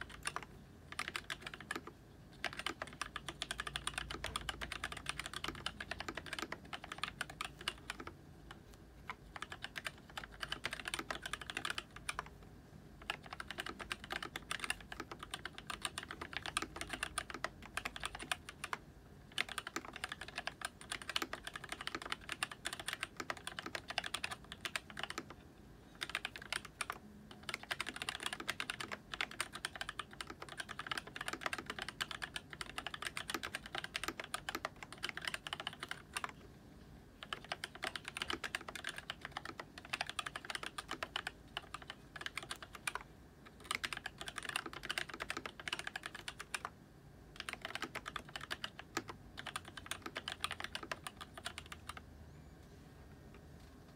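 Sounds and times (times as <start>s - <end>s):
mechanical keyboard typing clacks: 0.0s - 12.4s, 13.0s - 25.4s, 26.0s - 36.4s, 37.2s - 46.7s, 47.3s - 52.0s.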